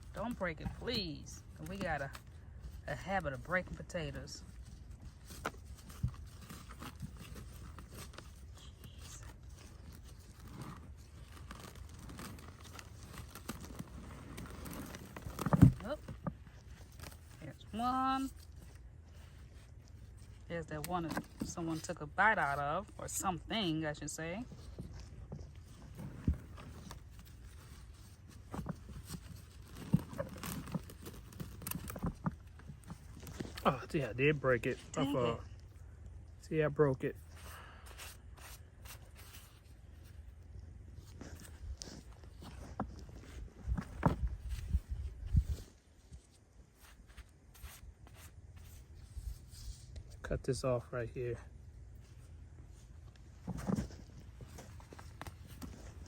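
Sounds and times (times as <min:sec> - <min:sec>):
hands rustling through soil: 0:00.0 - 0:56.0.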